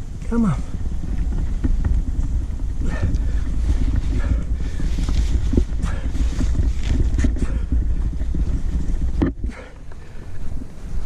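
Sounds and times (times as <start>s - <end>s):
cloth bag rustling against microphone: 0.0s - 11.0s.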